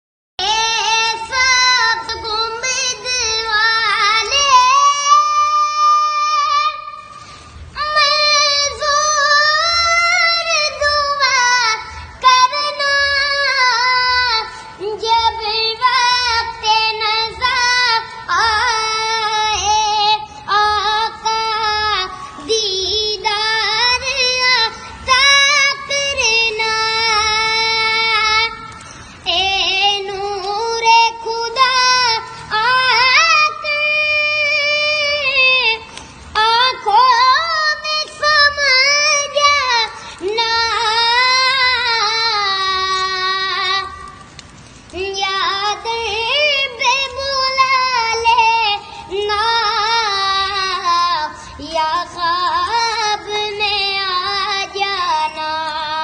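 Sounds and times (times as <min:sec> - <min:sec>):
child singing devotional song: 0:00.4 - 0:56.0.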